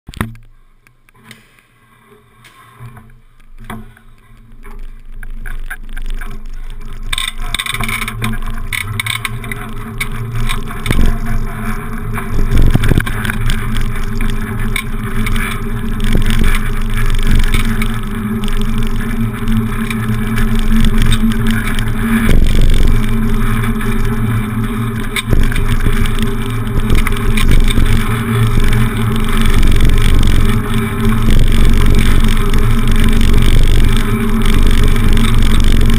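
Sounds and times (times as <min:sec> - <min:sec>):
bicycle tyre noise: 0:00.1 - 0:35.9
wind rumbling on microphone: 0:02.8 - 0:35.9.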